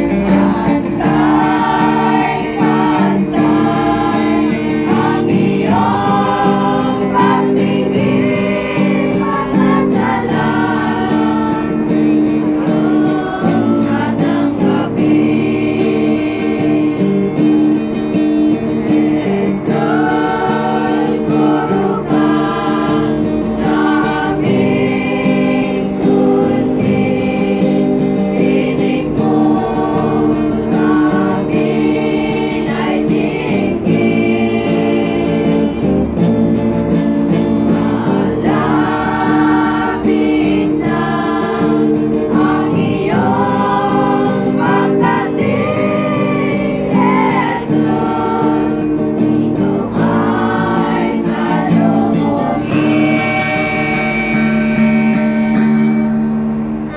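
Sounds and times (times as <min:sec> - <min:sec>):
women's choir singing a hymn: 0:00.0 - 0:56.9.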